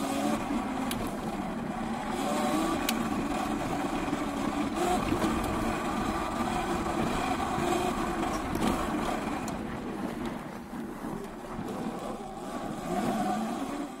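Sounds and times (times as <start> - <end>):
electric motor and chain whine: 0.0 - 14.0.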